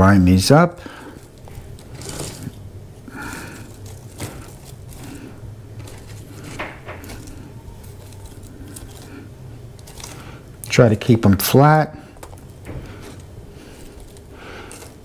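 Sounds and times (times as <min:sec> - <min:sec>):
low hum: 0:00.8 - 0:11.0, 0:11.9 - 0:15.0.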